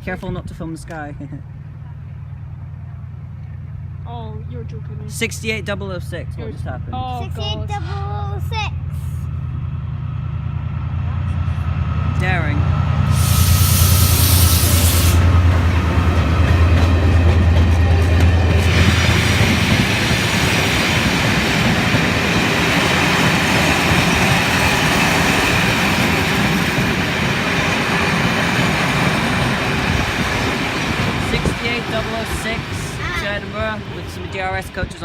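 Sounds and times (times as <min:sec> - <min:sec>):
diesel locomotive drone: 0:00.0 - 0:35.0
train wheels rushing on rails: 0:04.7 - 0:35.0.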